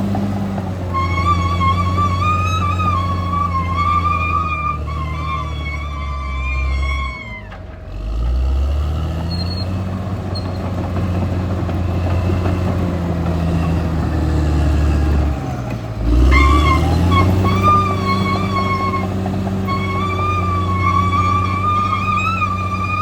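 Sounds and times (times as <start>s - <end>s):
bulldozer diesel engine: 0.0s - 23.0s.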